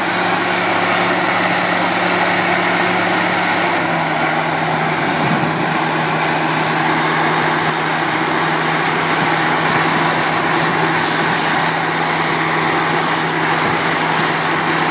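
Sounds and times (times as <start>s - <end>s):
low engine drone: 0.0s - 14.9s.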